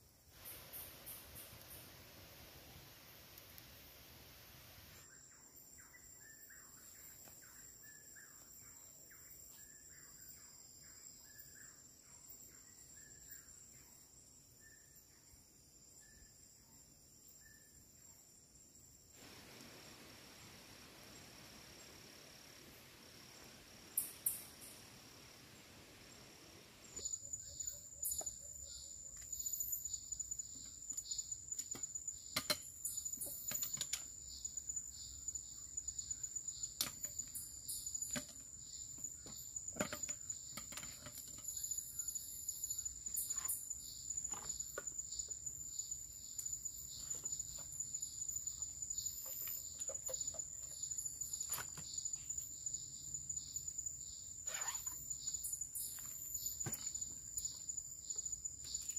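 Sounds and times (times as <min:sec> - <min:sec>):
insects trilling: 0:00.0 - 0:16.6, 0:17.2 - 0:58.9.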